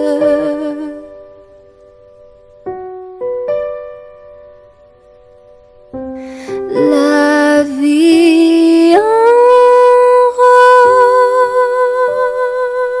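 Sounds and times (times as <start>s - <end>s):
music with long held notes: 0.0s - 13.0s.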